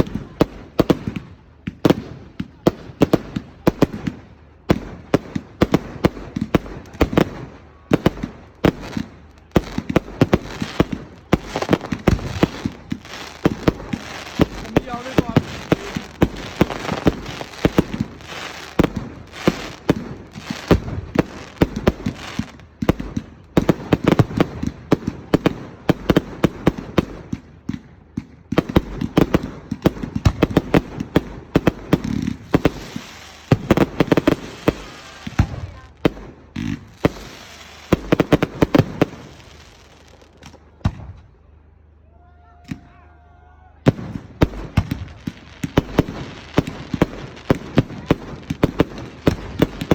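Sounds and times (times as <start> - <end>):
fireworks bangs and crackles: 0.0 - 41.4, 43.8 - 49.9.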